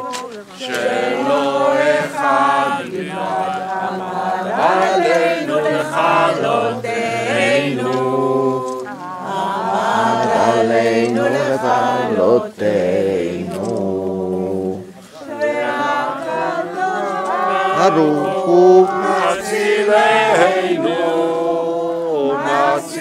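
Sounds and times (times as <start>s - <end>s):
voices singing a slow chant: 0.0s - 23.0s.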